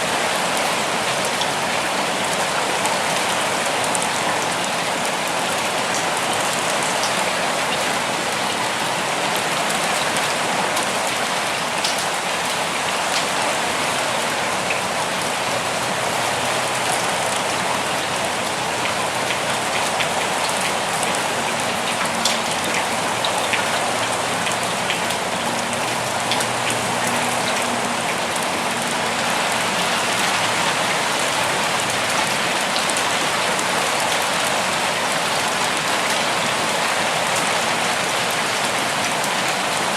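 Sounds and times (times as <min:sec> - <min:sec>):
steady rain: 0:00.0 - 0:39.9
raindrops ticking close by: 0:00.2 - 0:39.9.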